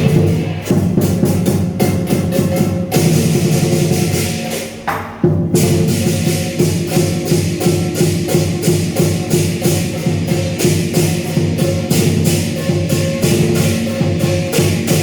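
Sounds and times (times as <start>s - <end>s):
gong: 0.0s - 4.7s, 5.5s - 15.0s
cymbals clashing: 0.0s - 15.0s
drum beating: 0.0s - 15.0s.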